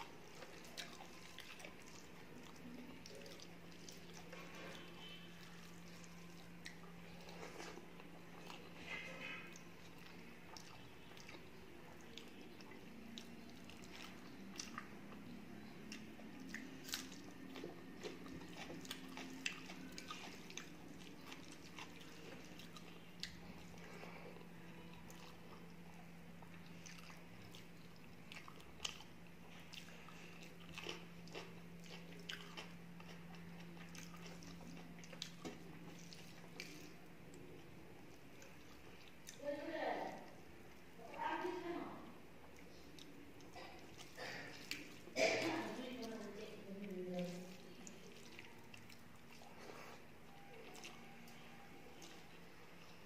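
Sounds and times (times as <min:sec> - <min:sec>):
chewing and crunching food: 0:00.0 - 0:53.0
faint low hum: 0:00.0 - 0:53.0.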